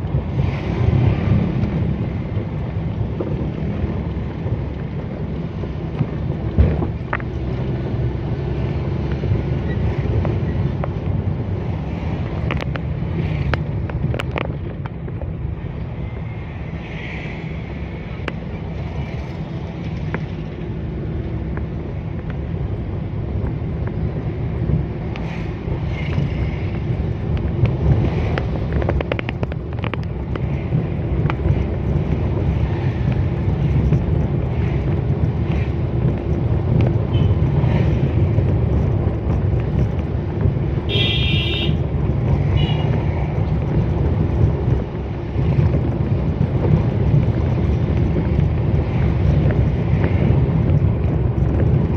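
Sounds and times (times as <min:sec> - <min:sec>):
van engine and road noise: 0:00.0 - 0:51.9.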